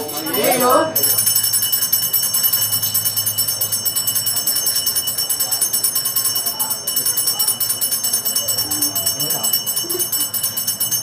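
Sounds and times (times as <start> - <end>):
metal bells shaken rhythmically: 0.0 - 11.0.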